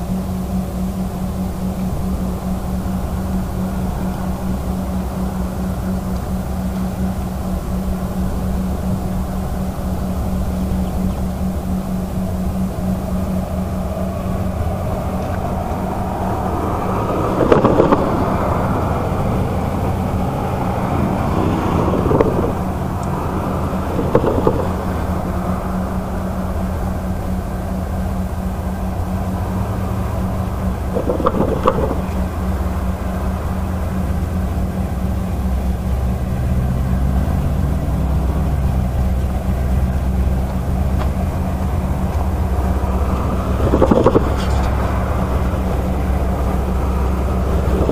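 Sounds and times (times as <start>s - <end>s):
distant diesel locomotives rumbling: 0.0s - 47.9s.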